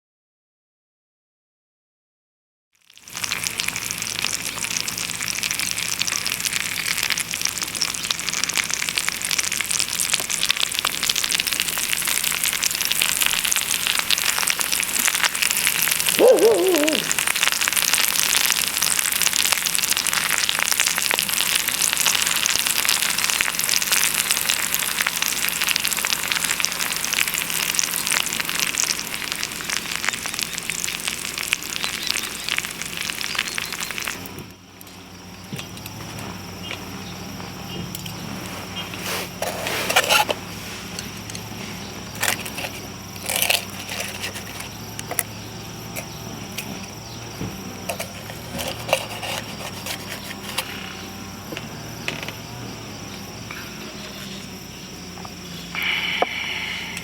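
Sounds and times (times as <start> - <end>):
food sizzling in a frying pan: 2.8 - 34.4, 35.0 - 54.6.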